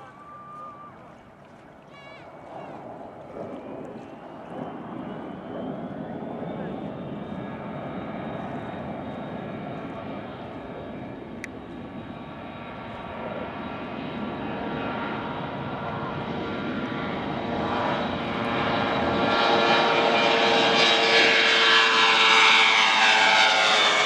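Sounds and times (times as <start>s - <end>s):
jet engines whining: 2.0s - 24.0s.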